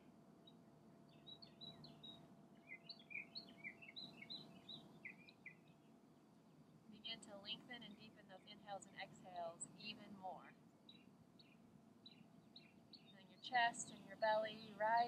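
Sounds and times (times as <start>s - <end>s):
songbird chirping: 0.0s - 6.0s, 6.7s - 15.0s.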